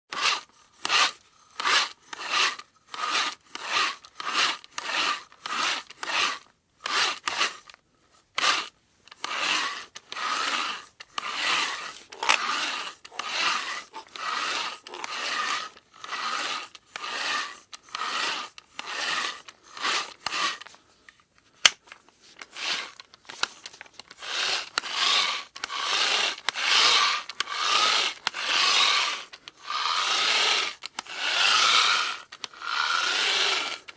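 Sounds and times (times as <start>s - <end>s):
hand drill rasping scrape: 0.1s - 33.9s.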